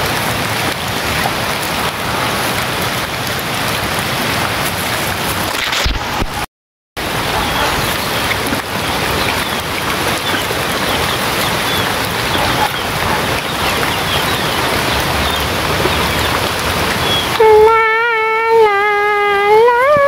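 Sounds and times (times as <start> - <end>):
steady rain falling: 0.0 - 6.3, 7.0 - 20.0.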